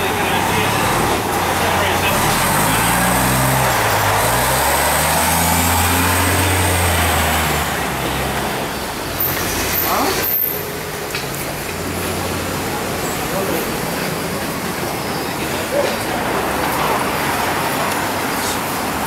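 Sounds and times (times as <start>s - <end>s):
bus engine humming: 0.0s - 19.0s
street noise: 0.0s - 19.0s.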